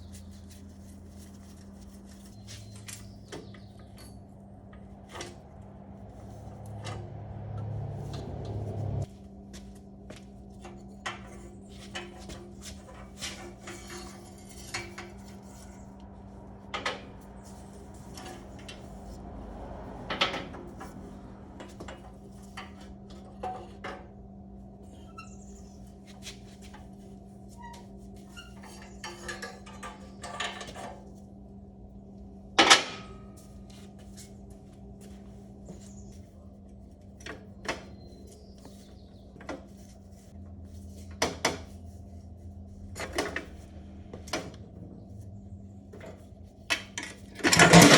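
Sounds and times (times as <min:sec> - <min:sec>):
steady low hum: 0:00.0 - 0:47.5.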